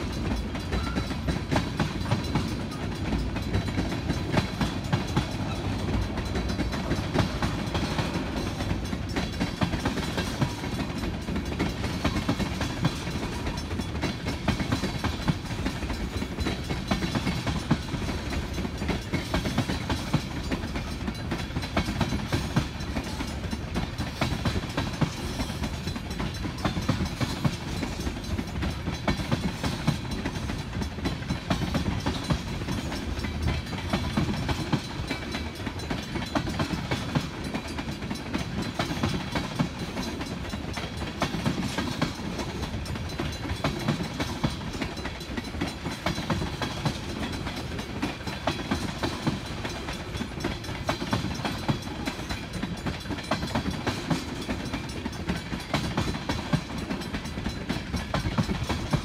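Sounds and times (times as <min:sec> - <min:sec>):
freight train rolling past: 0:00.0 - 0:59.0
wheels clicking over rail joints: 0:00.0 - 0:59.0.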